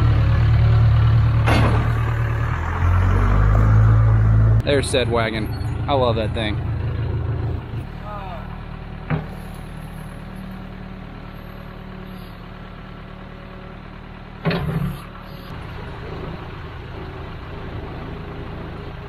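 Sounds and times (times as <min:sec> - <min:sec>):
backhoe diesel engine running: 0:00.0 - 0:19.0.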